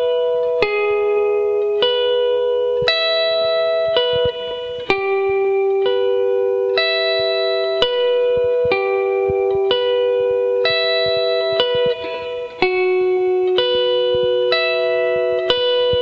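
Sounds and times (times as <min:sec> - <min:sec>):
electric guitar arpeggio: 0:00.0 - 0:16.0.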